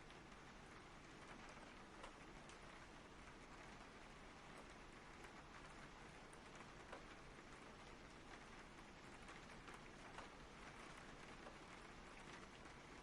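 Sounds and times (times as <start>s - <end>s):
faint steady rain: 0.0s - 13.0s.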